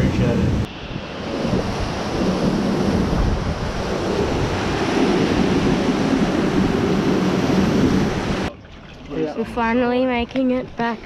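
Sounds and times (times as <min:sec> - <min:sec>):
boat wake rushing: 0:00.0 - 0:09.9
wind buffeting microphone: 0:00.0 - 0:11.0.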